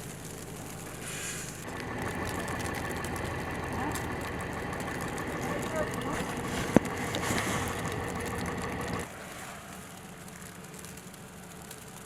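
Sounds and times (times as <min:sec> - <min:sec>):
outdoor background hush: 0:00.0 - 0:12.0
faint engine-like hum: 0:00.3 - 0:12.0.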